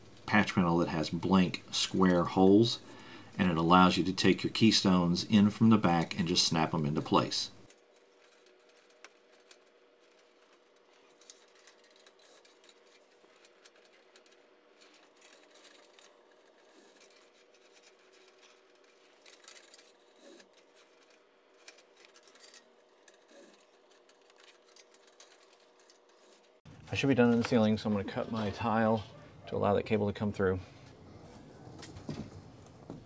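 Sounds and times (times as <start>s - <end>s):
cables rustling and ticking: 0.0s - 29.0s
faint steady hum: 0.0s - 33.0s.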